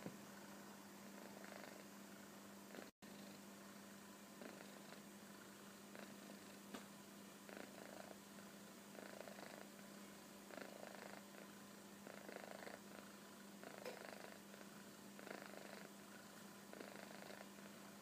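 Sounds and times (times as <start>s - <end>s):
kitten snoring softly: 0.4s - 6.7s, 7.4s - 18.0s.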